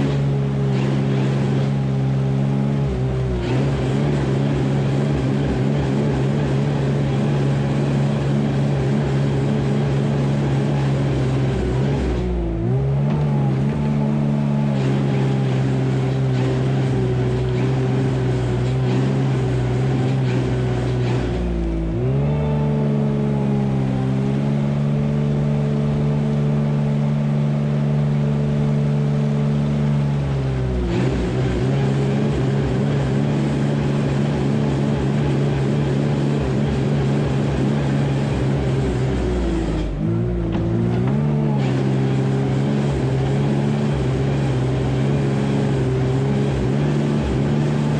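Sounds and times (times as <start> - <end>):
wheel loader diesel engine: 0.0 - 47.9.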